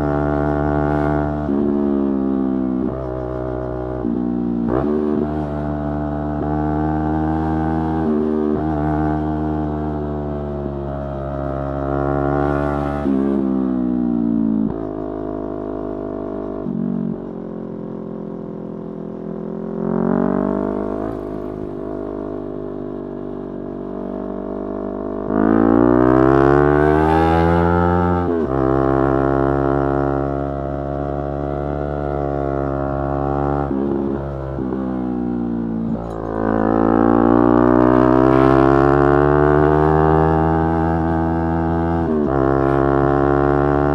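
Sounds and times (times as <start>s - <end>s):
motorcycle engine revving: 0.0s - 15.0s, 18.0s - 43.9s.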